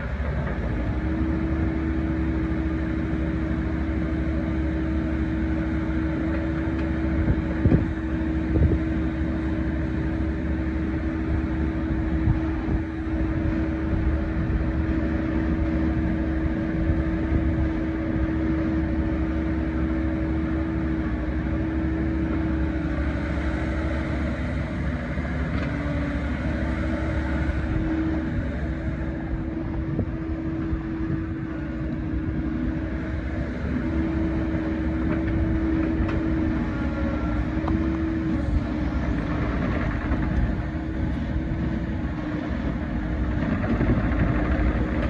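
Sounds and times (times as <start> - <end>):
excavator diesel engine running: 0.0 - 45.0
hydraulics humming: 0.0 - 45.0.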